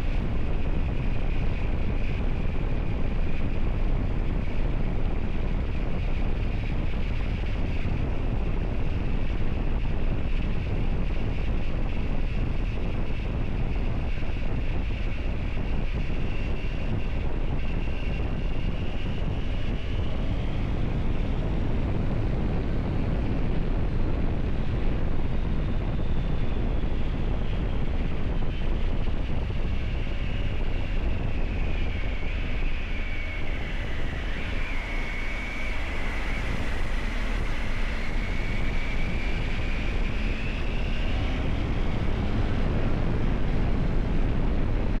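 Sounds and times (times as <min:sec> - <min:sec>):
wind rush on microphone: 0:00.0 - 0:45.0.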